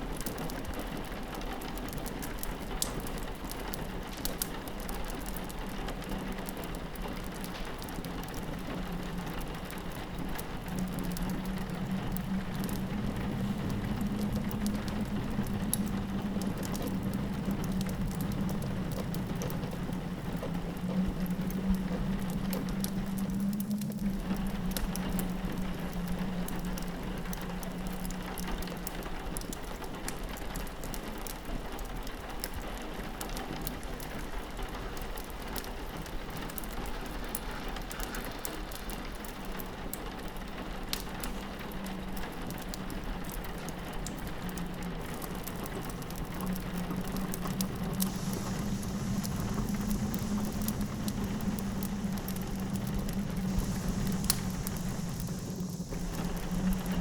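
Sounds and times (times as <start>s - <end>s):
howling wind: 0.0s - 57.0s
rain pattering on a window: 0.0s - 57.0s
fireplace crackling: 1.8s - 31.4s, 40.7s - 57.0s.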